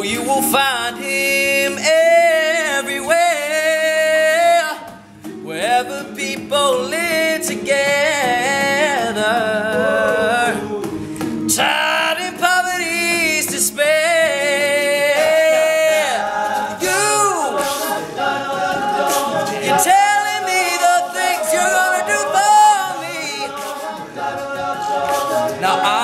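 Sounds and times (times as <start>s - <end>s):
backing vocal harmonies: 0.0s - 26.0s
lead voice singing long notes: 0.1s - 26.0s.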